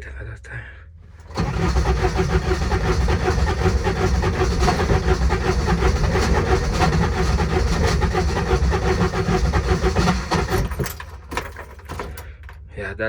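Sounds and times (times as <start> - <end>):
diesel engine cranking: 1.0 - 12.8.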